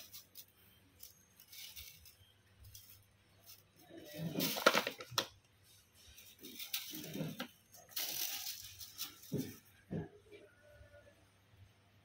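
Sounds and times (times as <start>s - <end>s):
kittens scuffling in broom bristles: 0.0s - 9.8s.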